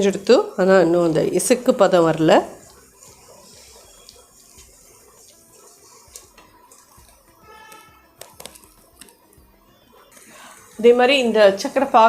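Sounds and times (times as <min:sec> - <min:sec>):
syrup simmering in a pan: 0:02.1 - 0:11.9.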